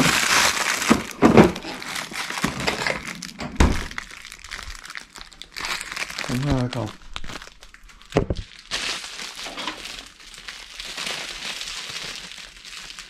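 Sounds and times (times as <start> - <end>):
plastic bread bag crinkling: 0.0 - 13.0.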